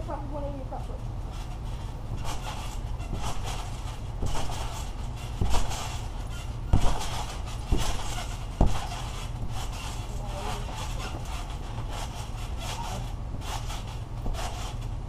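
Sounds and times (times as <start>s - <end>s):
thumps on trampoline mat: 1.3s - 15.0s.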